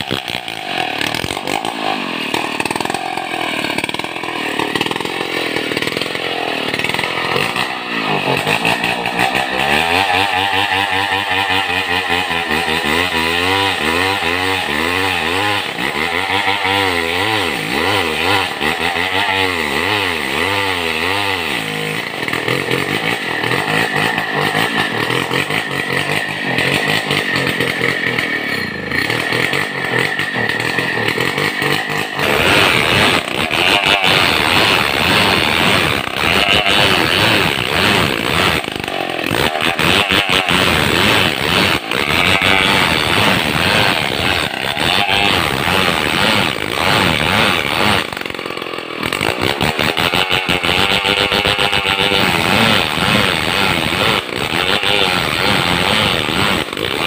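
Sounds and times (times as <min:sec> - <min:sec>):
chainsaw cutting through log: 0:00.0 - 0:57.0.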